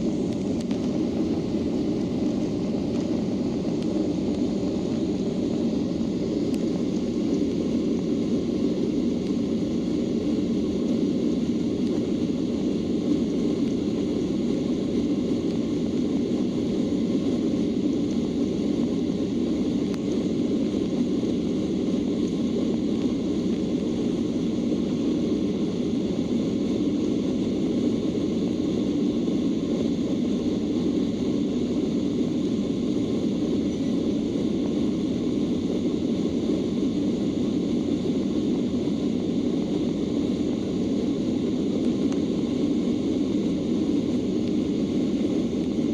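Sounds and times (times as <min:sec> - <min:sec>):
airplane cabin engine rush: 0:00.0 - 0:45.9.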